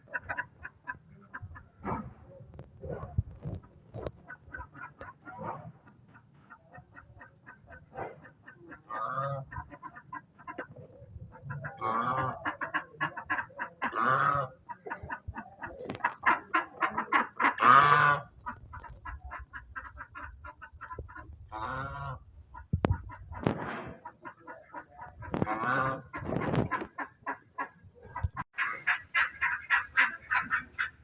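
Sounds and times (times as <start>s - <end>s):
chicken drawn-out calls: 0.0s - 31.0s
chickens clucking: 0.0s - 31.0s.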